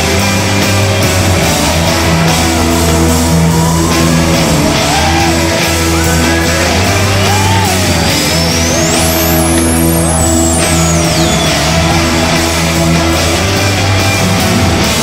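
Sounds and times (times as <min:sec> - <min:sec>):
rock music with distorted guitar: 0:00.0 - 0:15.0.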